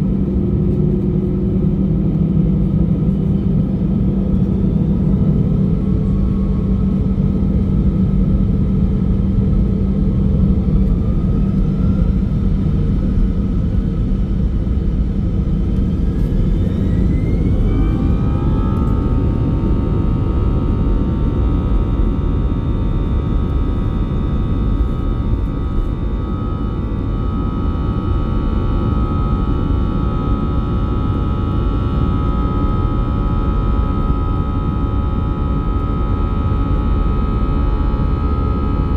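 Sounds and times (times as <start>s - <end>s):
jet engine whine spooling up: 0.0s - 38.9s
jet engines rumbling: 0.0s - 38.9s.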